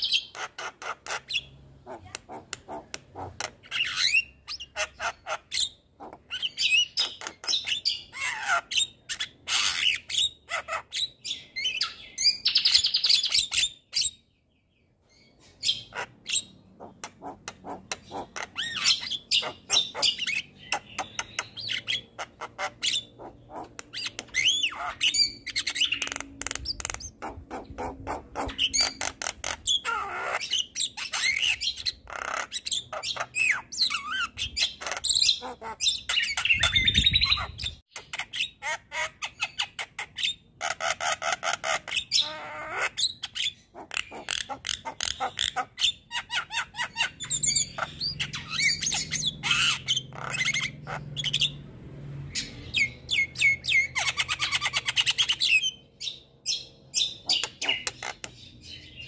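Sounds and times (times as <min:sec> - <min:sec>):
bird singing varied song: 0:00.0 - 0:59.0.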